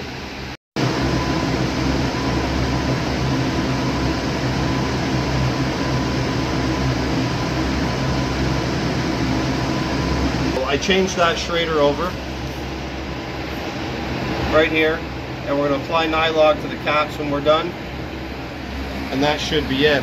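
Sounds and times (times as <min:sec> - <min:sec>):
air conditioning drone: 0:00.0 - 0:20.0
faint steady whine: 0:00.0 - 0:20.0.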